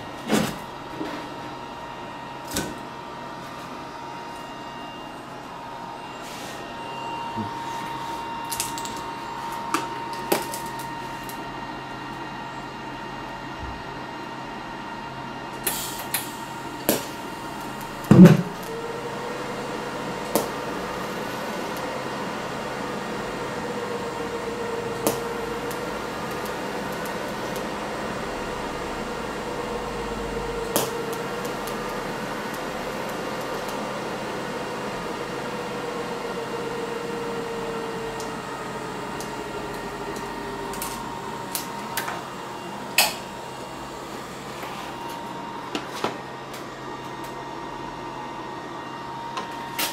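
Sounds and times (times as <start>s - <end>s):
welding arc humming: 0.0s - 12.2s, 15.4s - 47.9s.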